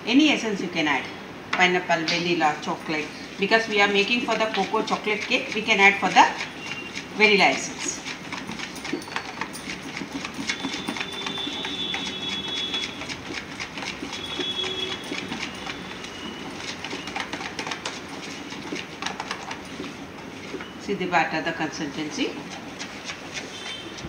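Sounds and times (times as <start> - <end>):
batter stirred in plastic bowl: 1.6 - 24.0.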